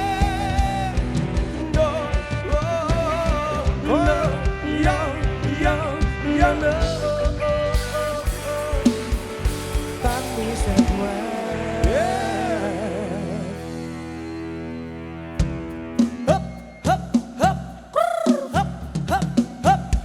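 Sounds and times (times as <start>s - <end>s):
live instrumental band music: 0.0s - 20.0s.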